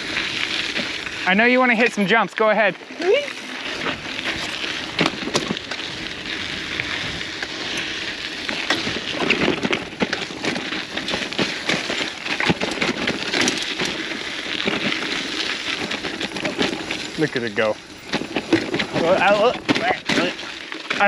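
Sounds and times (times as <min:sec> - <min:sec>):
bike rattling over bumps: 0:00.0 - 0:21.0
bike tyres crunching over gravel: 0:00.0 - 0:21.0.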